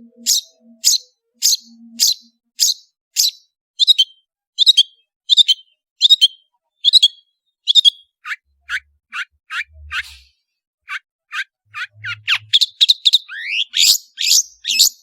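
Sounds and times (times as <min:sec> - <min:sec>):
bird singing short high notes: 0:00.0 - 0:15.0.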